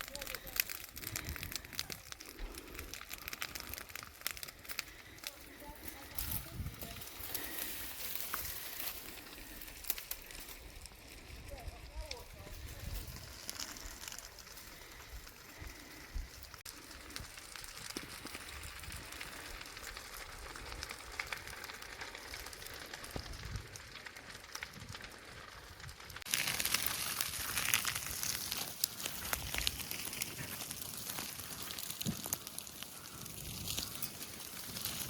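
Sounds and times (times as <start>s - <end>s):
grass fire crackling: 0.0s - 35.0s.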